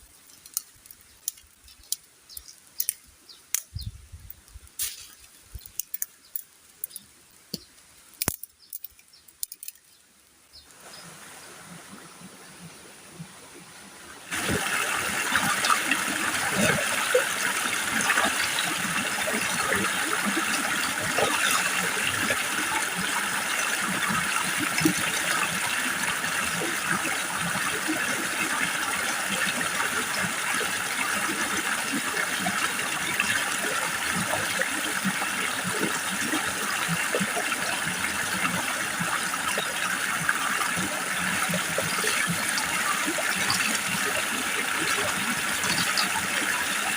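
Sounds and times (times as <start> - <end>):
stream trickling: 0.0 - 46.9.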